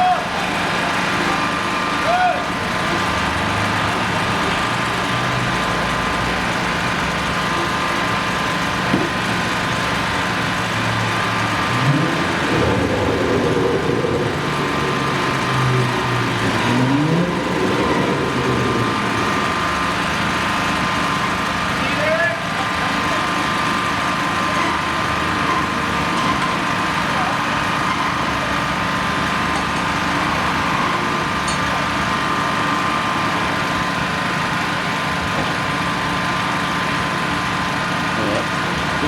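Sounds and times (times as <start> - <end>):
engine running and revving: 0.0 - 39.0.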